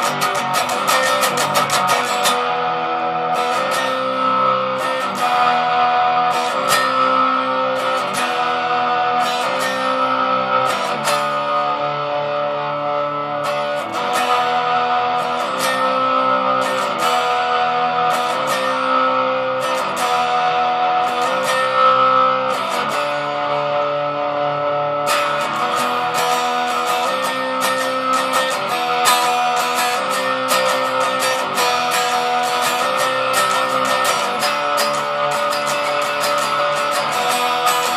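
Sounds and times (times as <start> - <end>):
distorted electric guitar chords: 0.0 - 37.9.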